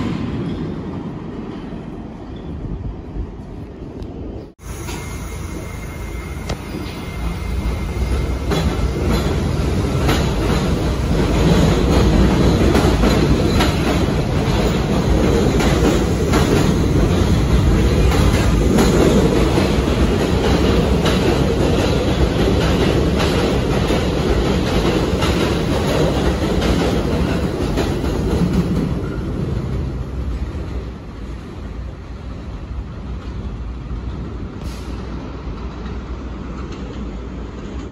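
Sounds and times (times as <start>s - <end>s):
subway train rumbling: 0.0s - 37.9s.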